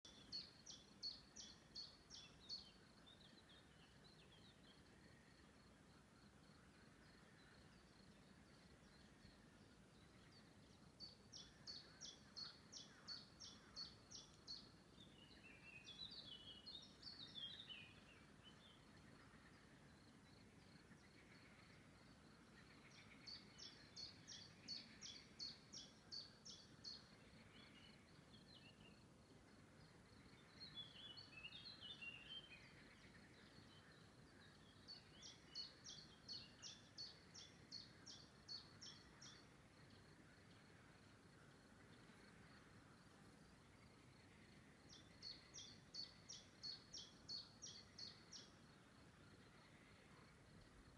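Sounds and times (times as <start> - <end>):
faint outdoor hiss: 0.0 - 50.9
songbird singing: 0.0 - 50.9.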